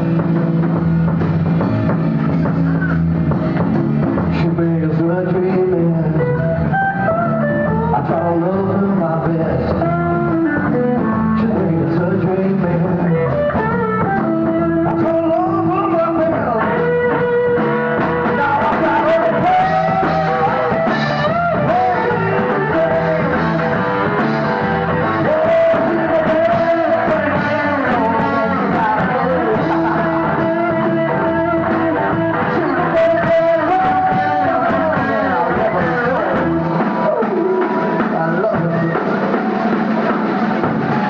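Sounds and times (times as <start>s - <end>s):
electric guitar melody: 0.0s - 41.0s
rock band playing live: 0.0s - 41.0s.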